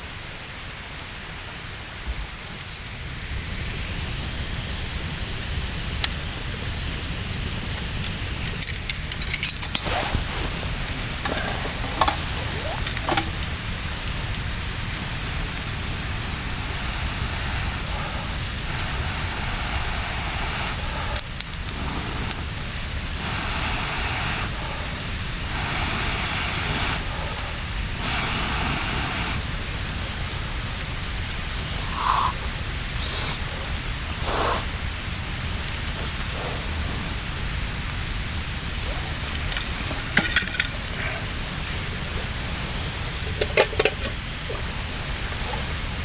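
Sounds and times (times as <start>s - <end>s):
steady hiss: 0.0s - 46.0s
wood fire crackling: 0.0s - 46.0s.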